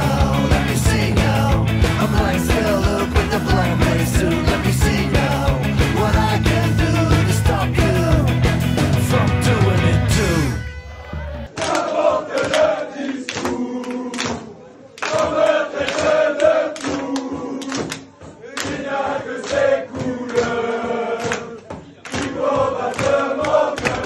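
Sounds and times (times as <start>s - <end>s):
football crowd chanting: 0.0s - 24.0s.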